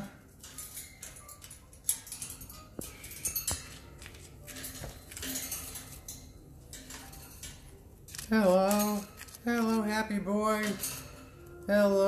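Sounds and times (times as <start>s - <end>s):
parrots clicking on wire cage: 0.0s - 12.0s.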